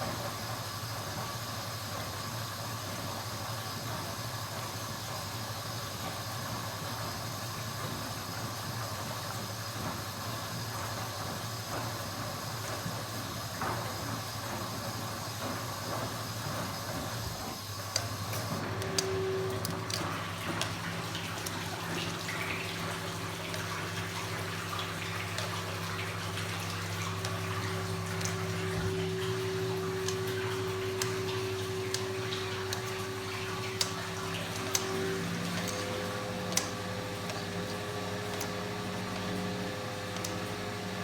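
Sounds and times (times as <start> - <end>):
washing machine humming: 0.0 - 41.0.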